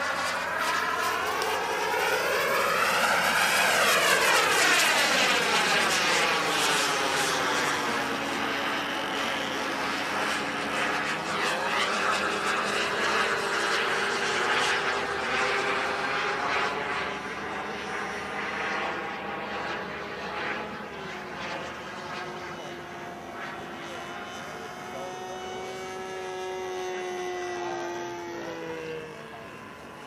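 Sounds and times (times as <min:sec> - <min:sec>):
model jet engine whine: 0:00.0 - 0:30.0.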